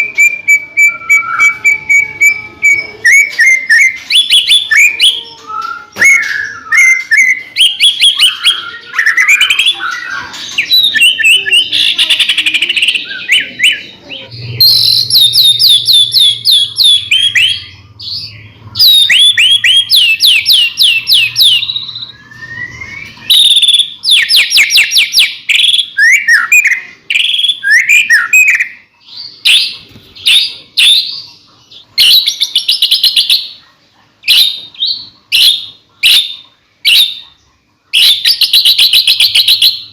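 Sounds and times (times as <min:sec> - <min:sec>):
songbird singing whistled trills: 0:00.0 - 0:33.6, 0:34.2 - 0:39.9.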